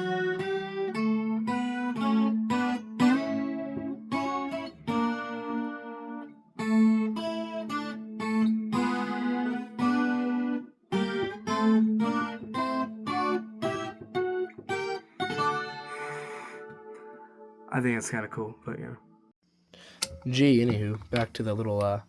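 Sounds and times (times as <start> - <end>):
amplified guitar ringing chords: 0.0 - 19.3.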